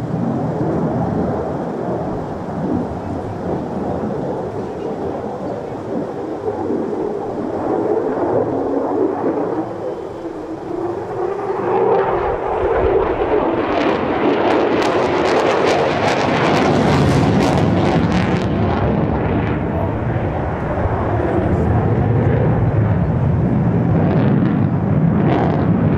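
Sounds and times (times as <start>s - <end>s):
harsh afterburner crackle: 0.0s - 25.9s
jet engine roar: 0.0s - 25.9s.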